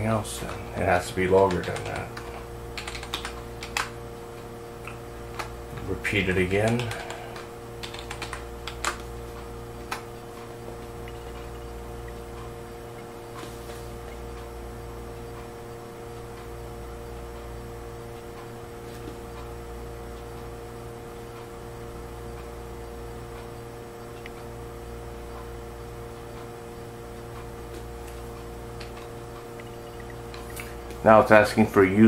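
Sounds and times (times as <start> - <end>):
electrical hum: 0.0 - 32.0.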